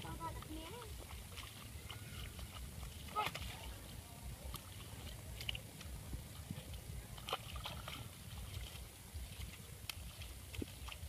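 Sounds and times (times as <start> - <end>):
splashing in puddle water: 0.0 - 11.0.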